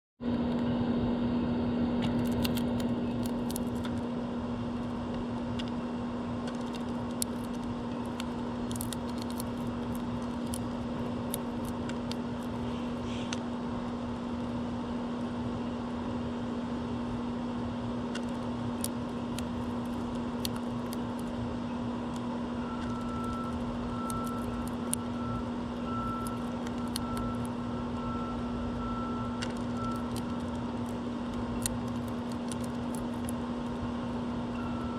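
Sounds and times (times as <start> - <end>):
steady mechanical hum: 0.2 - 34.9.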